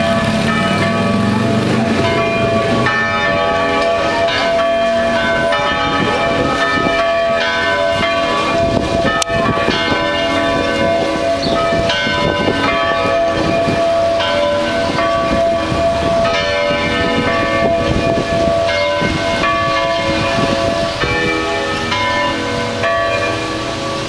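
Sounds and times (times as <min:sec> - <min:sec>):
carillon bells playing a tune: 0:00.0 - 0:24.0.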